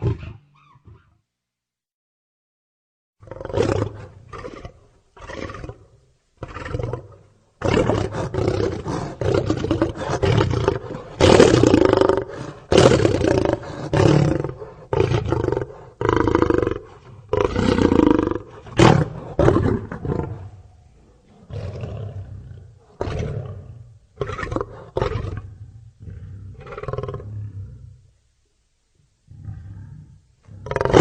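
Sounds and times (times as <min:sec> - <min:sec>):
lion roaring: 0:03.2 - 0:28.0, 0:29.3 - 0:31.0.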